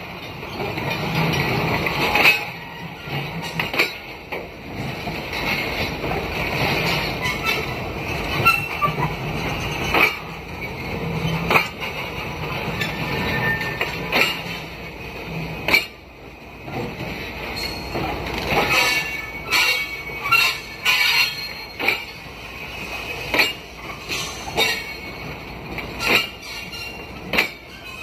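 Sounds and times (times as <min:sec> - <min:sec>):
train wheels rumbling on rail: 0:00.0 - 0:28.0
wheels clacking over rail joints: 0:00.0 - 0:28.0.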